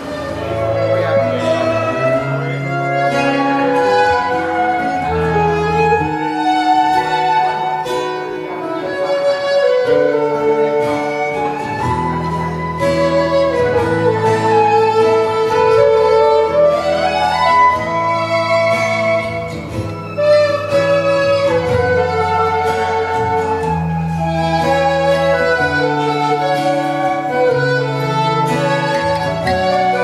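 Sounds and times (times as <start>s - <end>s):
slow melody over low notes: 0.0s - 30.0s.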